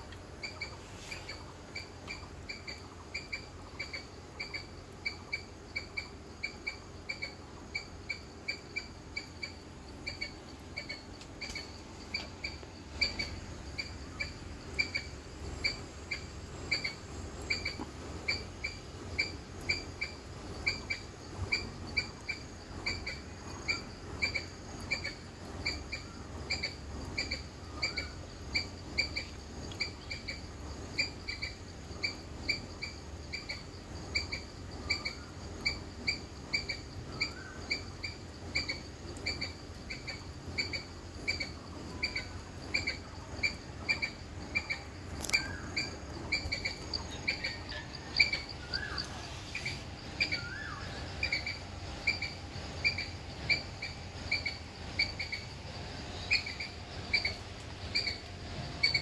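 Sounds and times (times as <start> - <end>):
soft calls of other birds: 0.0 - 59.0.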